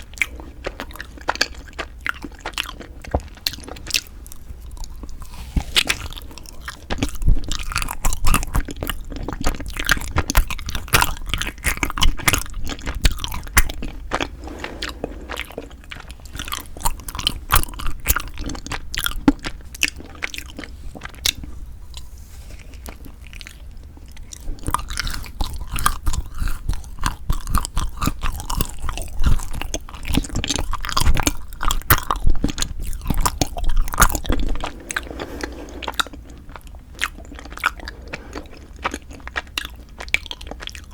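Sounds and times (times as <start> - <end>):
chewing sticky food: 0.0 - 40.9.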